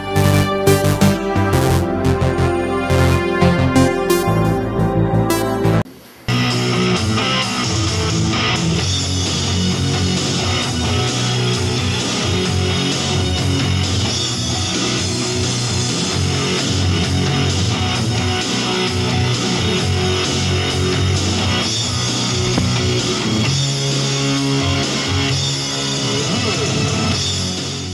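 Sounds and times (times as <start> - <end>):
rock music with distorted guitar: 0.0 - 27.9.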